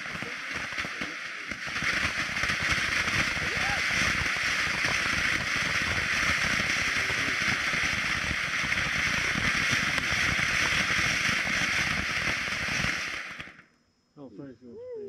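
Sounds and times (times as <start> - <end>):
firework crackling: 0.0 - 13.6
firework hissing: 0.0 - 13.6.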